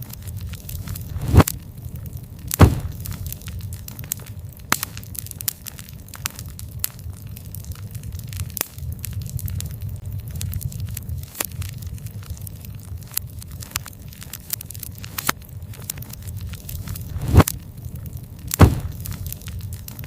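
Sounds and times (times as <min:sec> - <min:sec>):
campfire crackling and popping: 0:00.0 - 0:20.0
low rumble of flame: 0:00.0 - 0:20.0.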